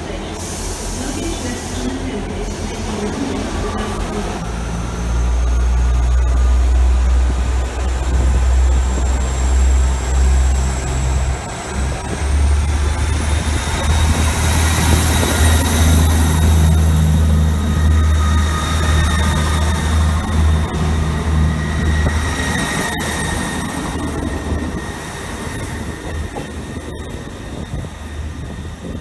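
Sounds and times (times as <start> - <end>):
diesel train engines droning: 0.0 - 29.0
high whine rising in pitch: 3.5 - 29.0.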